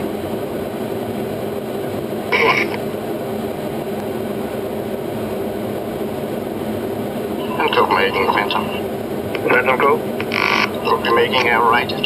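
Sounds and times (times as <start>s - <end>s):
cockpit drone and hiss: 0.0s - 12.0s.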